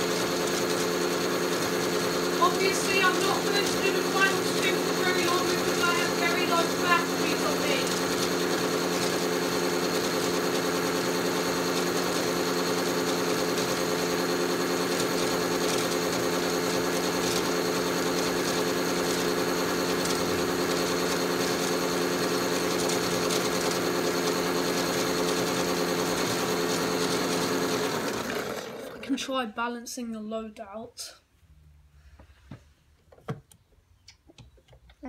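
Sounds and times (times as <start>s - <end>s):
toy washing machine motor humming: 0.0s - 29.2s.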